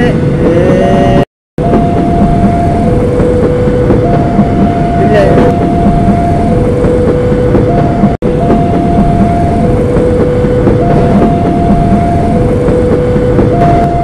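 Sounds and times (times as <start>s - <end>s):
train wheels rumbling on rails: 0.0s - 14.0s
two-note alternating tone: 1.6s - 14.0s.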